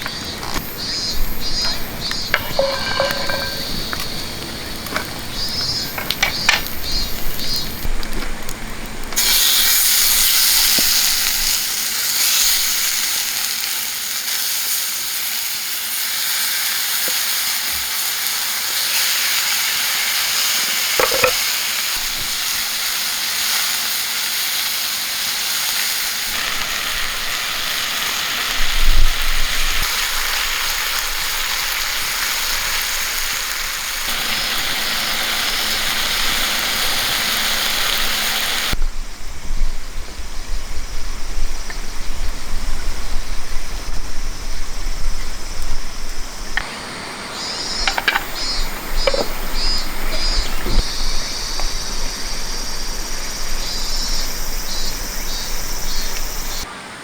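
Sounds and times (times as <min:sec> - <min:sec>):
steak sizzling: 0:00.0 - 0:38.8, 0:43.1 - 0:56.7.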